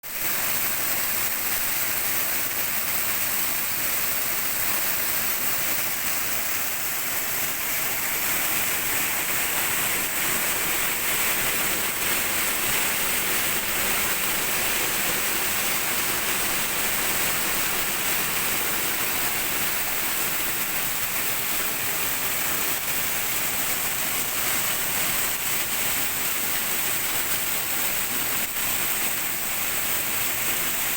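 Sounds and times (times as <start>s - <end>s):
waterfall pouring: 0.0s - 30.9s.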